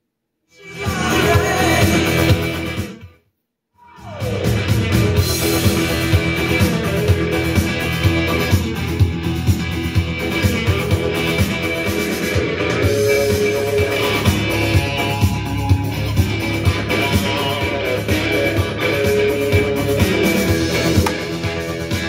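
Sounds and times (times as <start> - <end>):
rock music over speakers: 0.6 - 3.0, 4.0 - 22.0.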